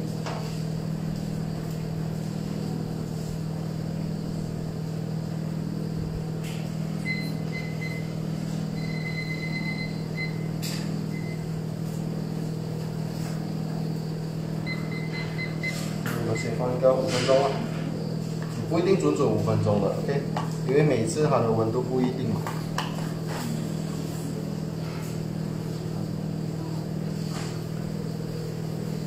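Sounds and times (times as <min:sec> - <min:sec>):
portable stove humming: 0:00.0 - 0:29.0.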